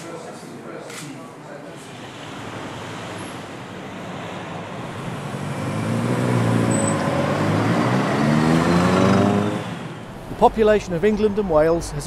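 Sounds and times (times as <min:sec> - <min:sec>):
road traffic: 0:01.8 - 0:12.0
bus engine hum passing: 0:02.0 - 0:12.0.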